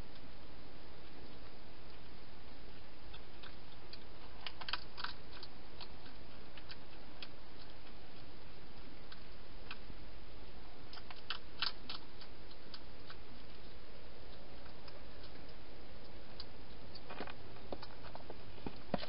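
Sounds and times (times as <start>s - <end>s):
steady background hiss: 0.0s - 19.0s
hedgehog chewing clicks: 2.7s - 9.9s, 10.9s - 19.0s.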